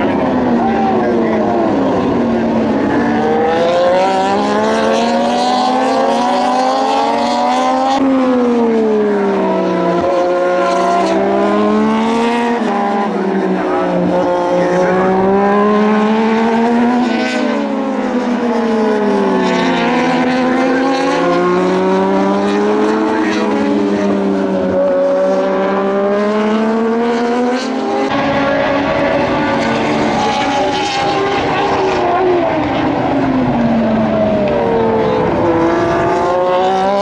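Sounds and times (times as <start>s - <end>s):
racing motorcycle engines passing: 0.0s - 37.0s.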